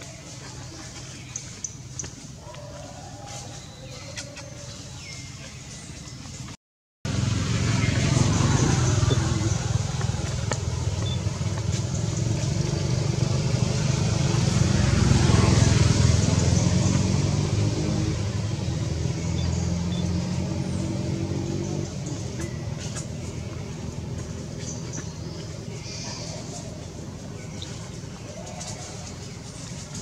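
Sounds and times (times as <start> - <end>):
vehicle engine rumbling: 5.0 - 30.0.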